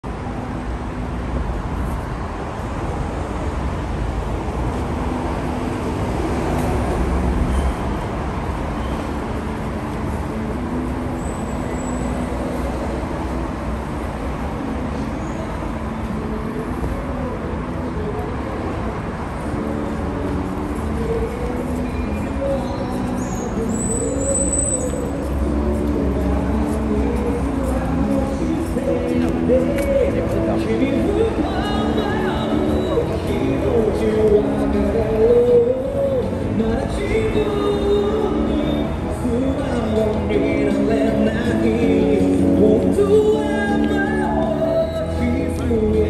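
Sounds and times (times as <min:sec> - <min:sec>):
road traffic noise: 0:00.0 - 0:46.0
faint voices of passers-by: 0:00.1 - 0:46.0.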